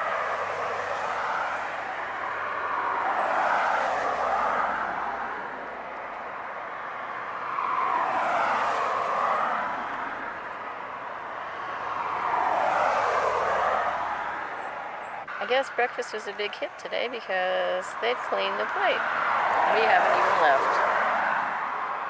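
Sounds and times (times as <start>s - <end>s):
cars passing: 0.0s - 22.0s.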